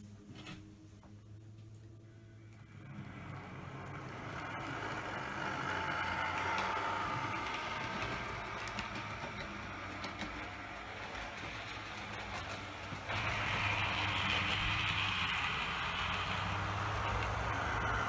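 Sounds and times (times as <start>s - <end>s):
model train motor and wheels running: 2.3s - 18.0s.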